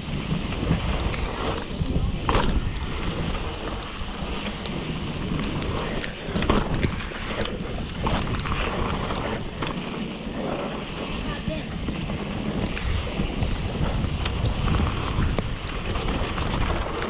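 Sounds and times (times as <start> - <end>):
bike rattling clicks and knocks: 0.0 - 17.0
tyres rumbling on trail: 0.0 - 17.0
wind on microphone: 0.0 - 17.0.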